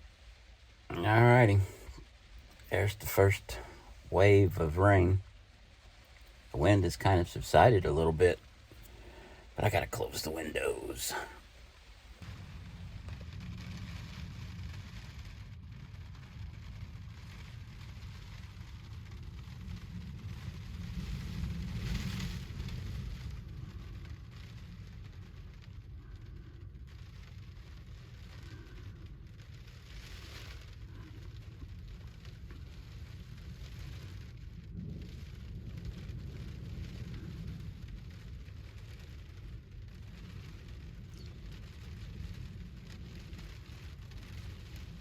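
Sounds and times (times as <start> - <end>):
low rumble: 0.0 - 45.0
rain on camper shell: 0.0 - 45.0.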